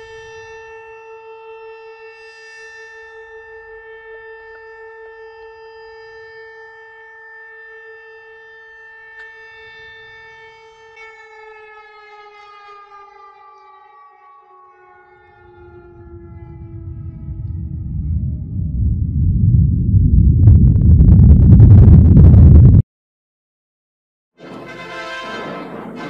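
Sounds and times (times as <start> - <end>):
air-raid siren: 0.0 - 21.1, 24.4 - 26.0.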